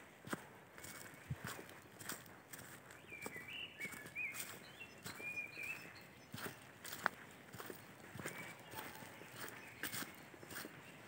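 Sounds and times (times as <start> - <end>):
footsteps on dry leaves: 0.0 - 11.0.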